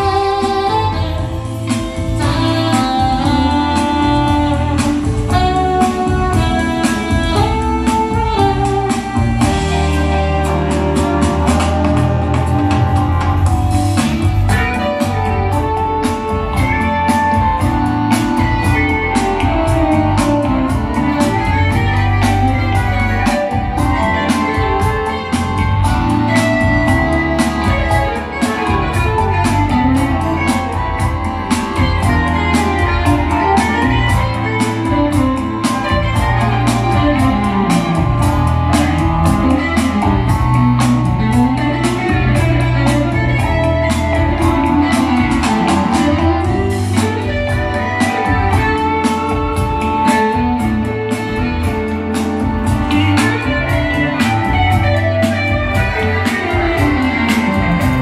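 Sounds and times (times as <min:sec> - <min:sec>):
electric guitar: 0:00.0 - 0:58.0
live band playing: 0:00.0 - 0:58.0.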